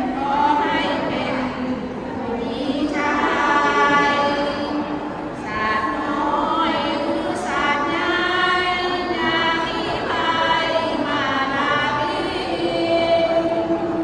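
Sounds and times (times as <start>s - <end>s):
women singing devotional chant: 0.0s - 14.0s.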